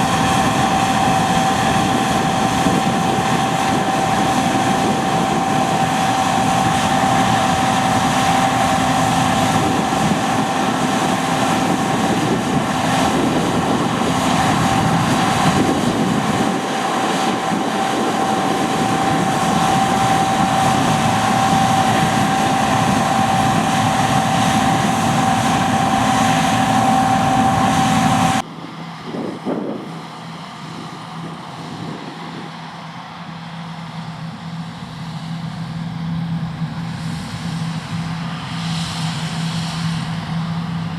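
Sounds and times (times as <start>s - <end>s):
constant high whine: 0.0s - 40.9s.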